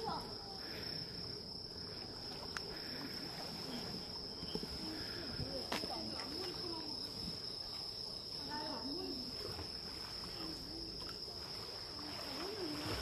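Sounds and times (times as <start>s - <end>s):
faint people talking: 0.0s - 13.0s
insects trilling: 0.0s - 13.0s.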